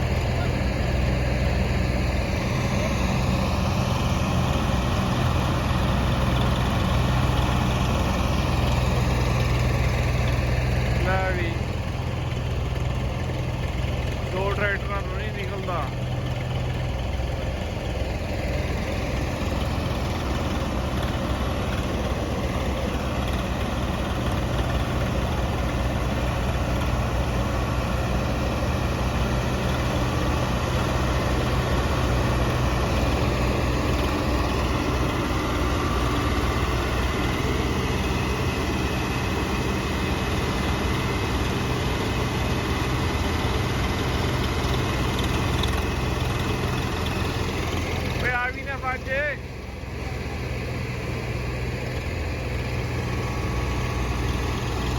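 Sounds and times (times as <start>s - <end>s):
diesel tractor engines droning: 0.0s - 54.9s.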